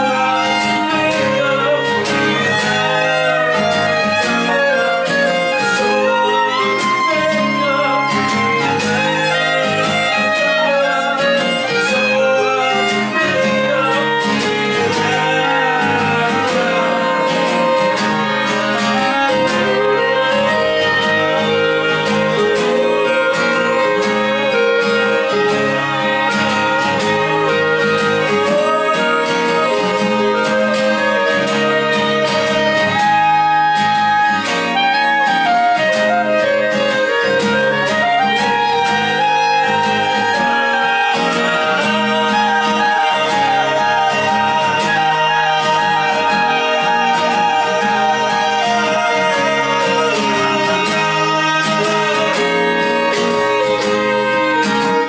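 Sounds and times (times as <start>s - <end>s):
acoustic guitar accompaniment: 0.0s - 55.0s
clarinet melody: 0.0s - 55.0s
violin melody: 0.0s - 55.0s.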